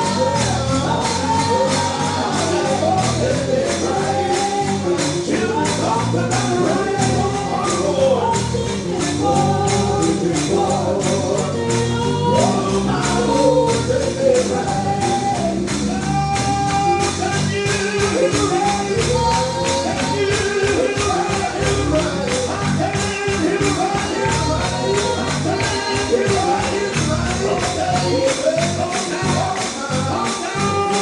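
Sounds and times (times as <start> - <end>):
fast tambourine beat: 0.0 - 31.0
gospel singing: 0.0 - 31.0.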